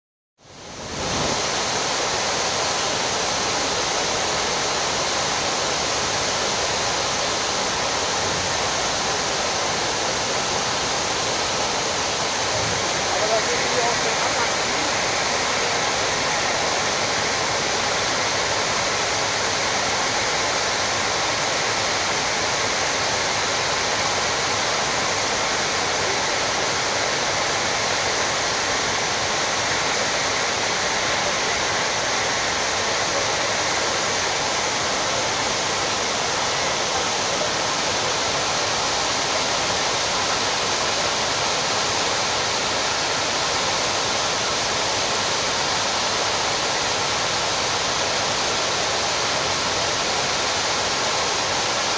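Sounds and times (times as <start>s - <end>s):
water cascading into a basin: 0.5s - 51.9s.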